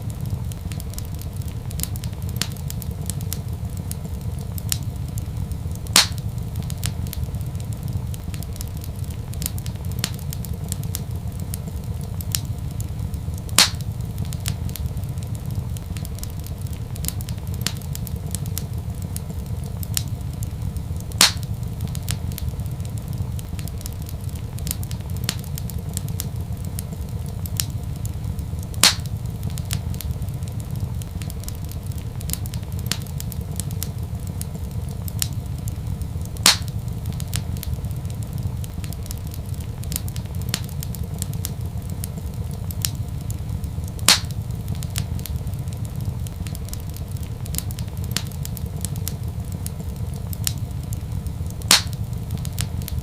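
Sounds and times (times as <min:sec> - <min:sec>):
fire popping: 0:00.0 - 0:53.0
wood fire crackling: 0:00.0 - 0:53.0.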